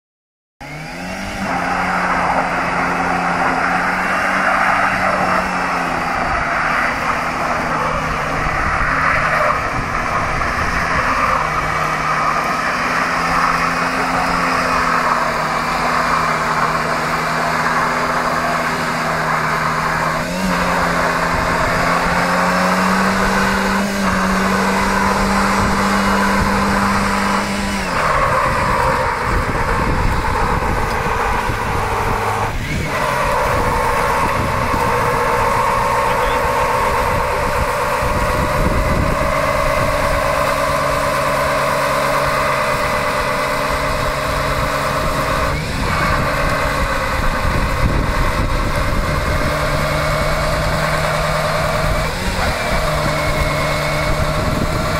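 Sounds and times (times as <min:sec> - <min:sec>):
car engine at high revs: 0:00.6 - 0:54.9
tyres spinning and squealing: 0:00.6 - 0:54.9.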